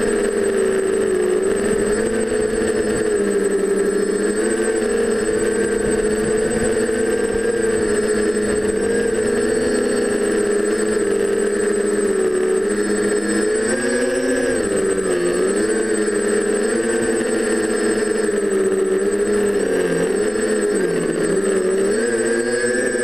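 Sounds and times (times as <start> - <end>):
quadcopter motors buzzing: 0.0 - 23.0.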